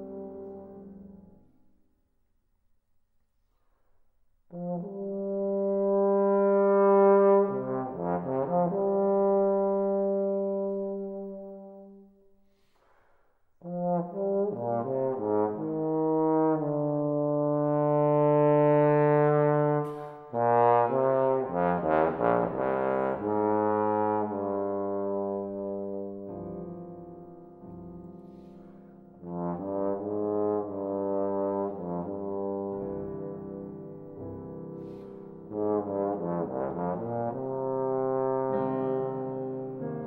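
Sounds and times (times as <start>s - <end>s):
bass trombone solo: 0.0s - 1.3s, 4.5s - 12.0s, 13.6s - 27.1s, 29.2s - 40.0s.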